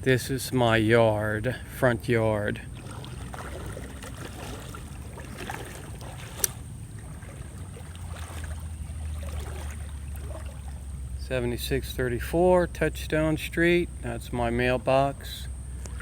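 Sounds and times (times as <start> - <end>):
low steady hum: 0.0 - 16.0
moving floodwater: 0.0 - 16.0.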